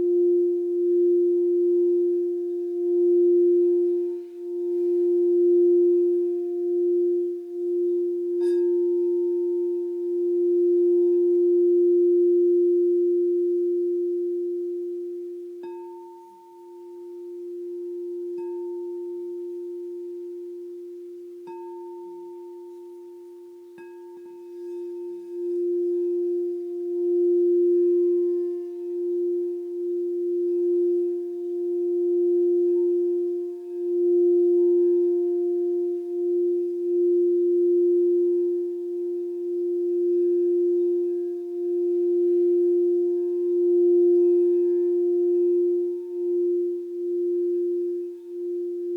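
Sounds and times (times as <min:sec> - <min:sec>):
crystal singing bowl tone: 0:00.0 - 0:48.9.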